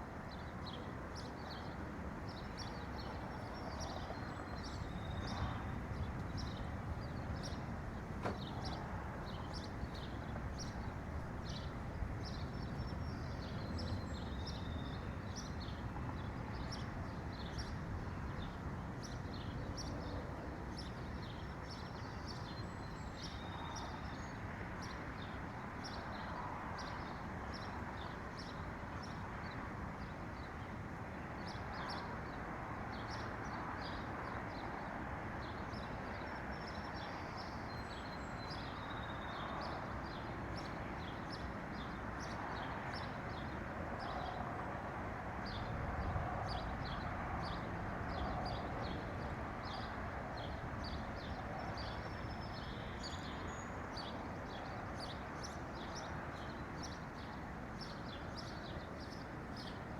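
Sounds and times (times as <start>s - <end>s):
small songbirds chirping: 0.4s - 30.5s, 31.4s - 44.5s, 45.5s - 59.9s.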